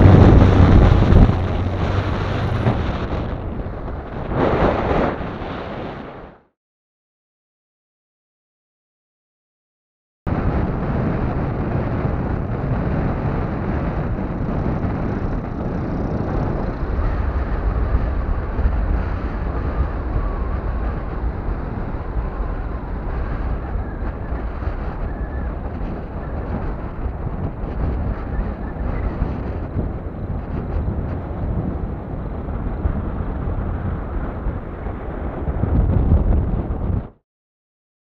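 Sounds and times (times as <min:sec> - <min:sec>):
wind buffeting microphone: 0:00.0 - 0:06.4, 0:10.3 - 0:37.2.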